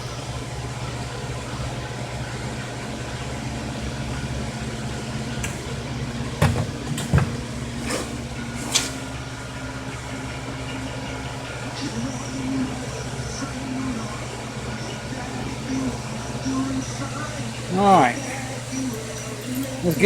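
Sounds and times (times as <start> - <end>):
forge blower motor humming: 0.0 - 20.0.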